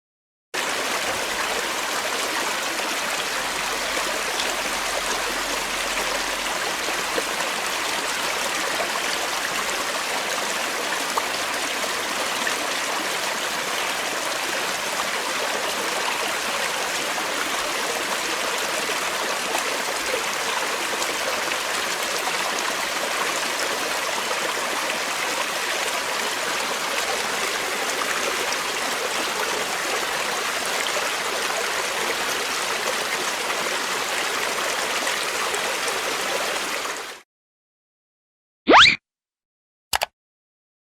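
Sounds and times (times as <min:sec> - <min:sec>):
stream rushing over rocks: 0:00.6 - 0:37.2.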